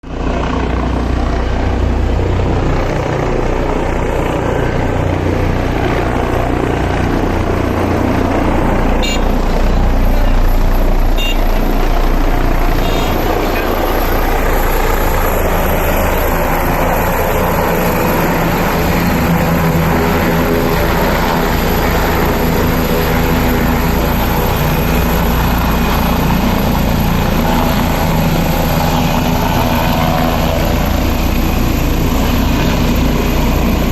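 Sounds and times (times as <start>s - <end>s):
helicopter rotor and engine: 0.0s - 33.9s.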